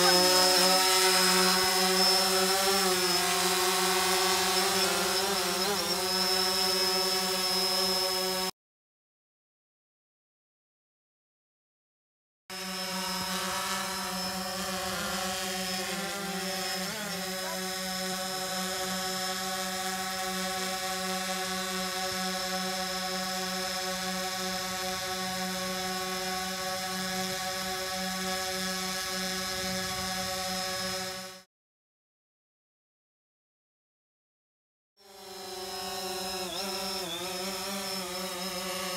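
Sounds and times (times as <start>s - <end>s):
drone propellers buzzing: 0.0s - 8.5s, 12.5s - 31.4s, 35.0s - 38.9s.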